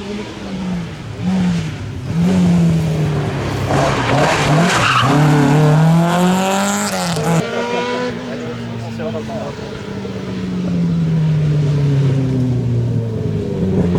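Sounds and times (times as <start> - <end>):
rally car engine revving: 0.0 - 13.9
tyres skidding: 0.0 - 13.9.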